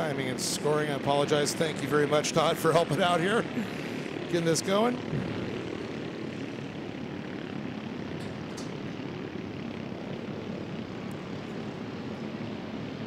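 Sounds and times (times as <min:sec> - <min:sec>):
kart engines buzzing: 0:00.0 - 0:12.7.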